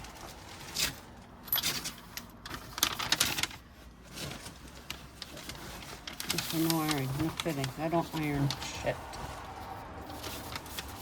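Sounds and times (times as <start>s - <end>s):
furniture parts clinking and rustling: 0.0s - 11.0s.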